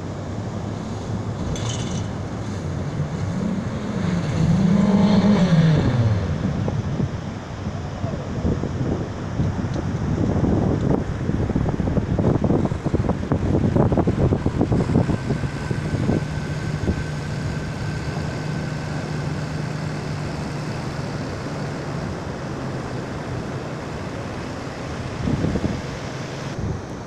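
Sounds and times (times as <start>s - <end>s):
tractor engine droning: 0.0s - 26.8s
wind buffeting microphone: 0.6s - 27.0s.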